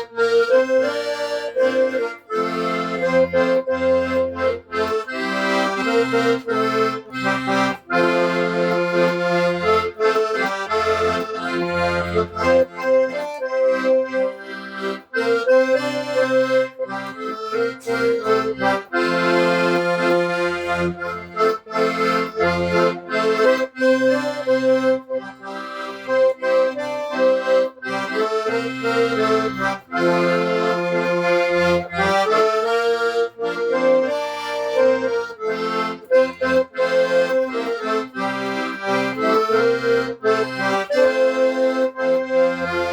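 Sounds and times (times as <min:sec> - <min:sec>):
accordion playing a tune: 0:00.0 - 0:42.9.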